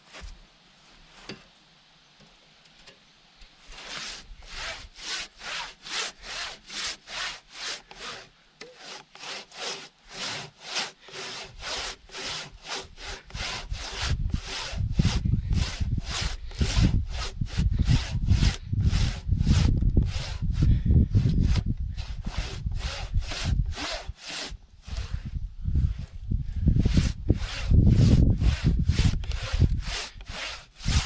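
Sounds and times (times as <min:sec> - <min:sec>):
handsaw cutting through log: 0:03.6 - 0:26.1, 0:26.7 - 0:31.0.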